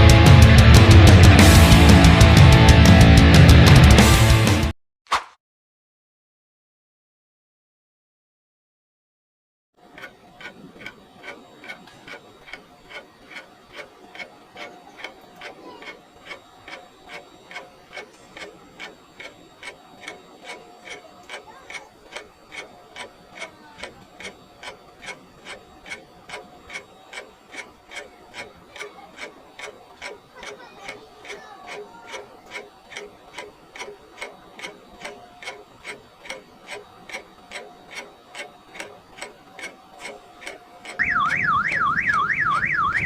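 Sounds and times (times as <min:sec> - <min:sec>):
clock ticking: 0:00.0 - 0:04.4, 0:09.8 - 0:43.0.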